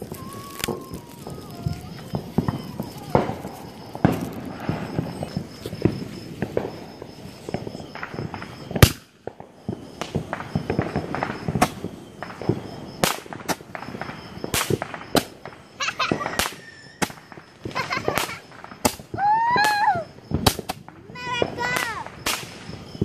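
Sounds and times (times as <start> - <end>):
fireworks popping and banging: 0.0 - 23.0.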